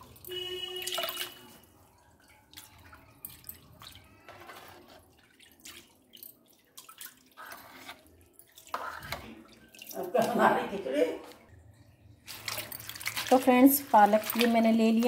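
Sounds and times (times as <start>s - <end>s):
water splashing in plastic basin: 0.0s - 15.0s.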